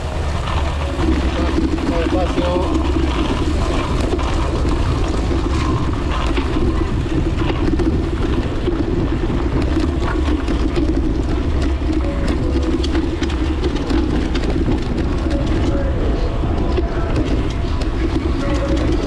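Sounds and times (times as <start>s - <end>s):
bike rattling over cobblestones: 0.0s - 19.0s.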